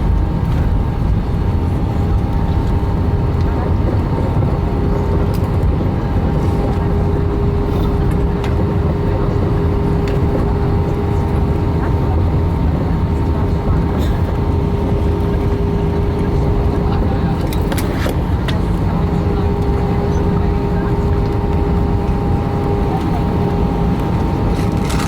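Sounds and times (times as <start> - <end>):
airliner cabin engine rumble: 0.0 - 25.0
constant hum: 0.0 - 25.0.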